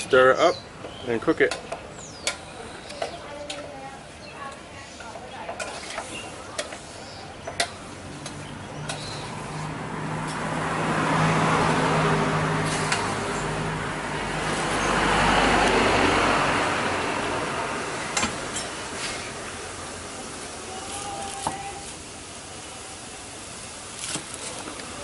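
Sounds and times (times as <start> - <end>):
vehicles passing on road: 0.0 - 25.0.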